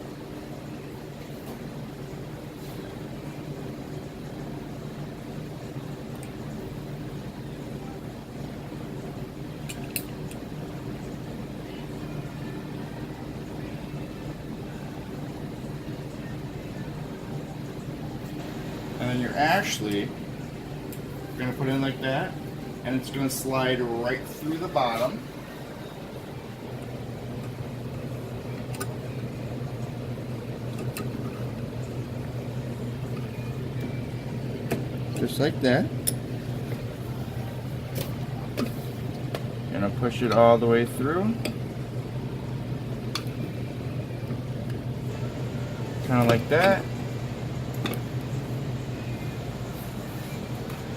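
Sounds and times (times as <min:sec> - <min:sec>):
low machine hum: 0:00.0 - 0:50.9.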